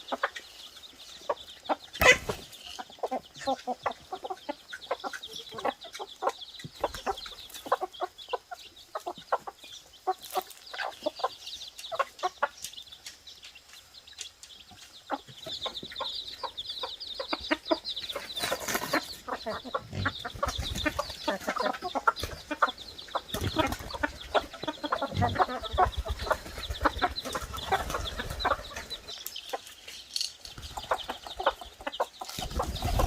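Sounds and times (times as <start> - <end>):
chickens clucking: 0.0 - 33.0
high chirping: 0.0 - 33.0.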